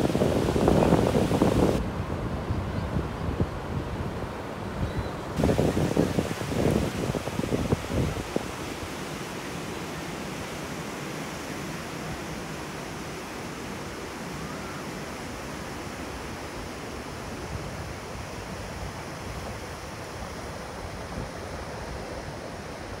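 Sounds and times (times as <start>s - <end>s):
waves breaking on beach: 0.0s - 1.8s, 5.2s - 23.0s.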